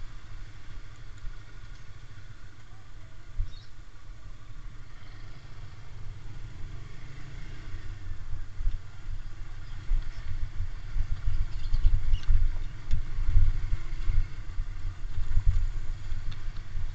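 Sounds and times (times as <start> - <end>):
motorcycle engine rumbling: 0.0 - 16.9.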